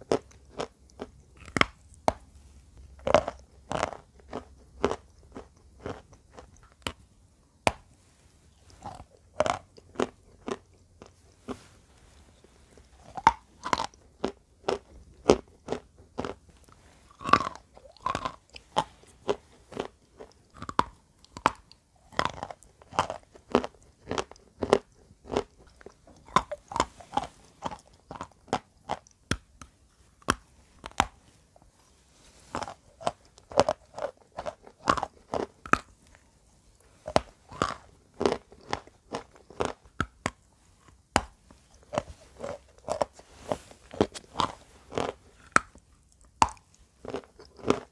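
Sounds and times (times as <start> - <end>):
chalk crunching while chewing: 3.0 - 7.1, 8.6 - 47.9.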